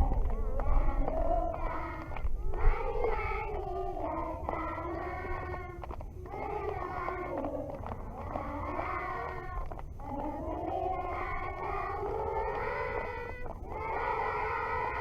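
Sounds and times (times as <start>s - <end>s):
low rumble: 0.0s - 13.8s
voices singing together: 0.0s - 15.0s.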